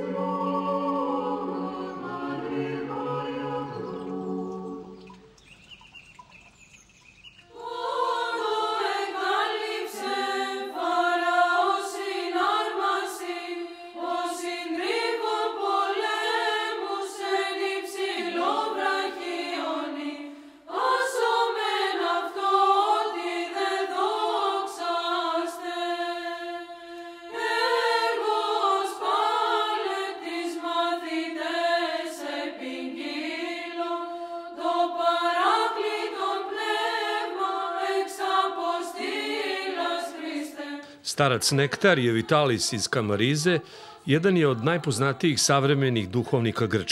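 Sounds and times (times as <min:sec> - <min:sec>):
choir chanting over a drone: 0:00.0 - 0:05.1, 0:07.5 - 0:42.5.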